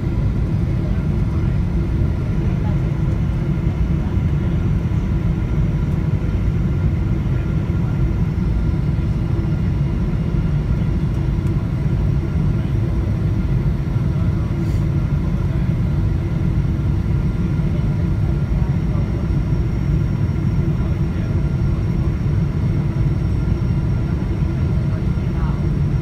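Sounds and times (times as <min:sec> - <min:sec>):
airplane cabin engine rumble: 0:00.0 - 0:26.0
faint steady whine tones: 0:00.0 - 0:26.0.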